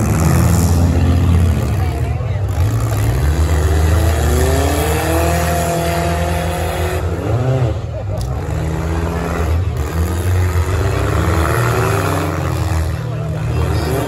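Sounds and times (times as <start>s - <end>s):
car engines revving loudly: 0.0s - 14.0s.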